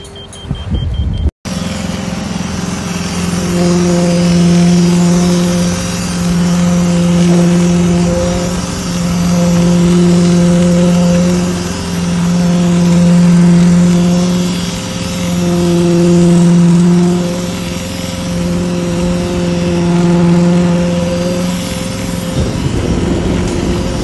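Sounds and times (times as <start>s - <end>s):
concrete pump humming: 1.4s - 24.0s.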